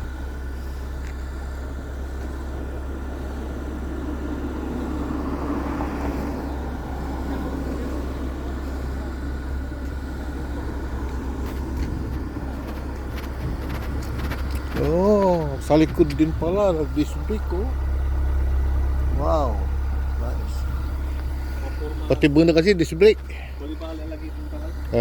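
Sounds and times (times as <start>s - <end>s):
car engine running: 0.0s - 25.0s
road noise: 0.0s - 25.0s.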